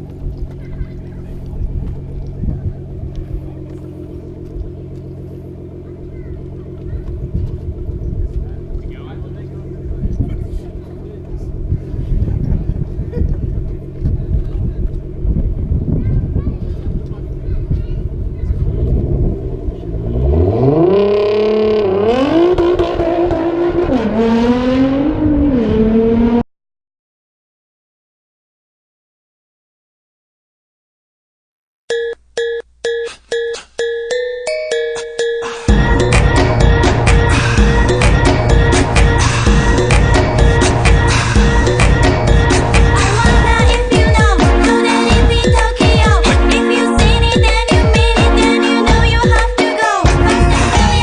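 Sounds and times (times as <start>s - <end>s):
car engine droning: 0.0s - 26.4s, 35.5s - 51.0s.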